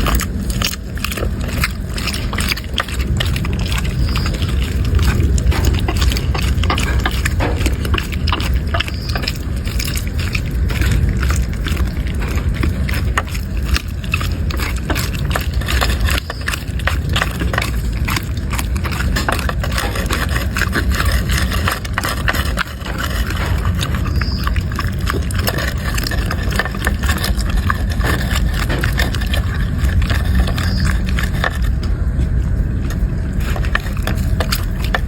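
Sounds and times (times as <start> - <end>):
dog chewing food: 0.0 - 35.0
low rumble: 0.0 - 35.0.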